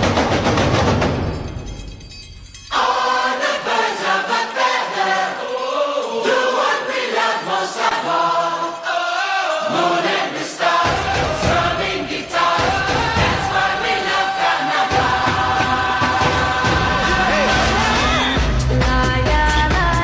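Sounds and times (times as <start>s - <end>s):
background music with choir singing: 2.7s - 20.0s.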